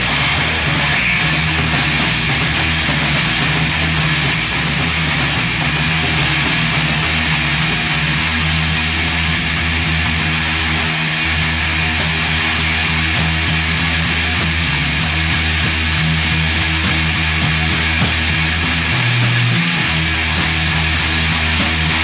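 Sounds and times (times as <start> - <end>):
distorted electric guitar: 0.0 - 22.0
low bass notes: 0.0 - 22.0
wall of noisy distortion: 0.0 - 22.0.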